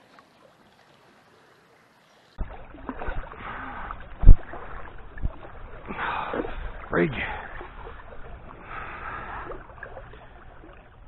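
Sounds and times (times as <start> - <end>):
running river water: 0.0 - 11.0.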